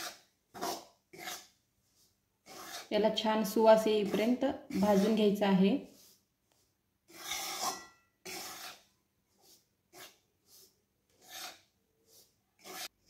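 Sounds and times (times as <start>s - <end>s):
spatula scraping in a pan: 0.0s - 13.0s.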